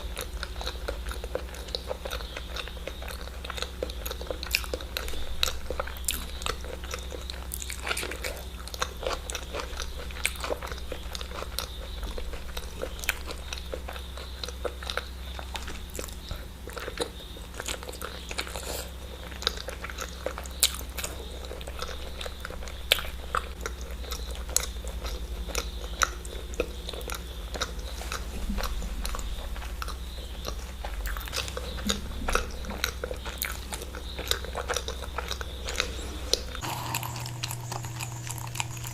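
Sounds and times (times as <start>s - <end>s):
person chewing: 0.0s - 38.9s
steady low hum: 0.0s - 38.9s.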